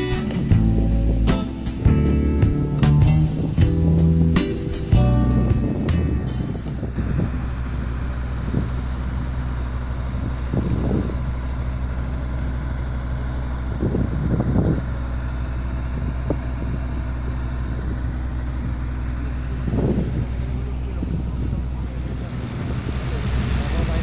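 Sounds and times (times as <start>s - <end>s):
ferry engine droning: 0.0s - 24.0s.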